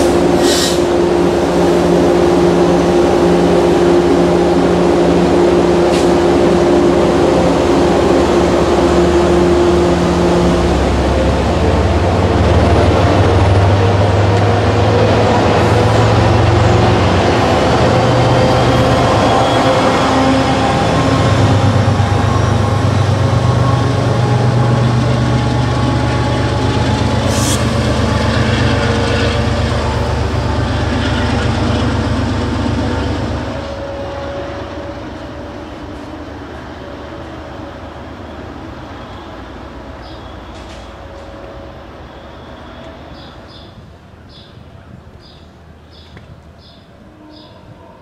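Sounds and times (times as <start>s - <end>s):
locomotive low hum: 0.0s - 48.0s
train wheels rumbling on rail: 0.0s - 48.0s.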